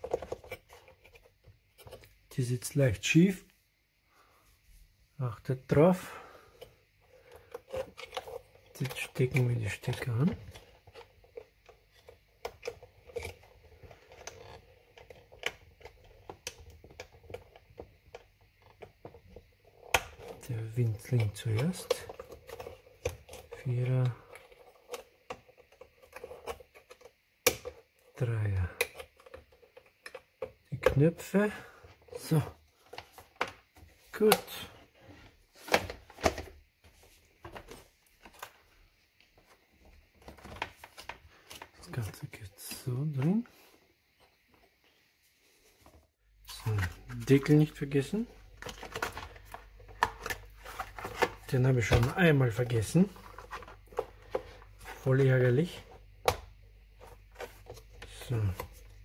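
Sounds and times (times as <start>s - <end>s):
faint handling noise: 0.0s - 59.0s.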